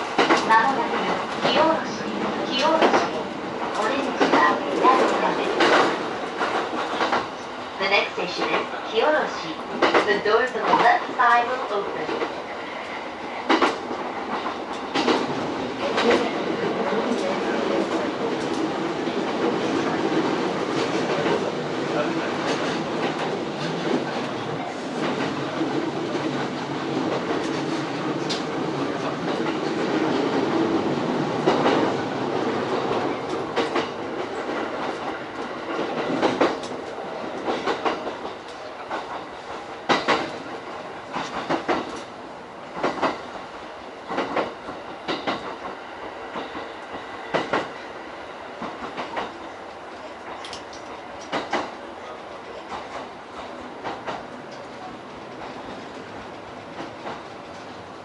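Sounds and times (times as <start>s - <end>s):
rail clicks: 0.0s - 58.0s.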